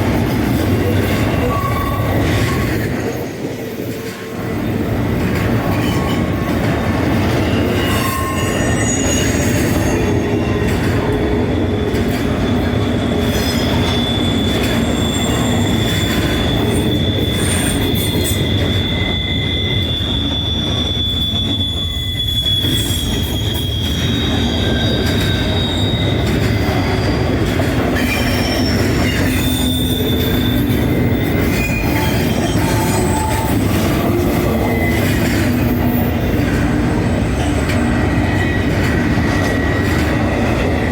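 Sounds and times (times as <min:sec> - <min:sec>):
train wheels rumbling on rail: 0:00.0 - 0:40.9
wheel squeal: 0:00.5 - 0:40.9.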